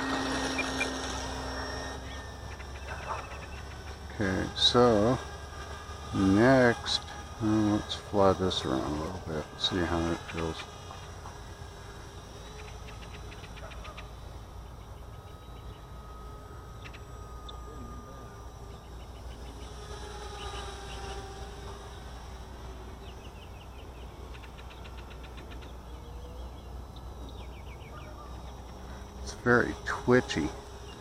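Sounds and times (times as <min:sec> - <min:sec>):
quadcopter motors buzzing: 0:00.0 - 0:31.0.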